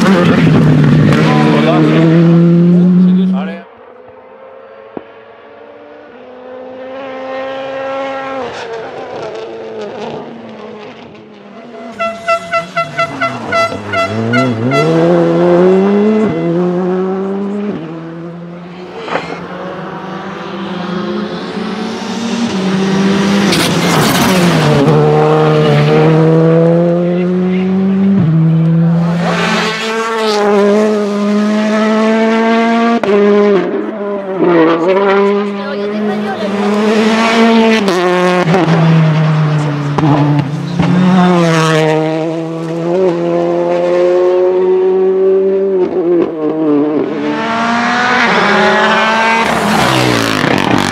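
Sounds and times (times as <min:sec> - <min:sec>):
rally cars accelerating past: 0:00.0 - 0:50.9.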